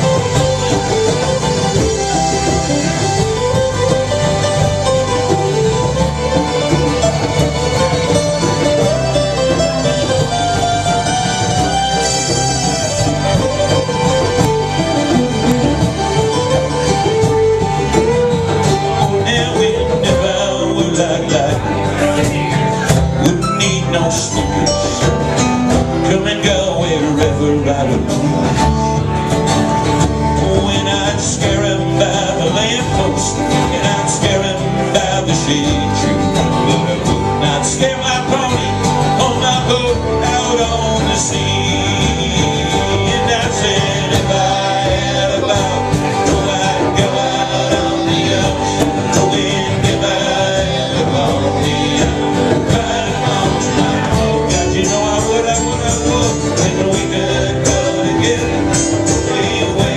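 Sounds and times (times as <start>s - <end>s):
live band playing country song: 0.0s - 59.9s.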